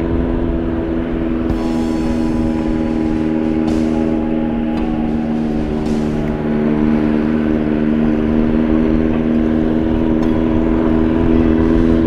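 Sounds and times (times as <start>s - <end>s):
low road rumble: 0.0s - 12.0s
vehicle engine hum: 0.0s - 12.0s.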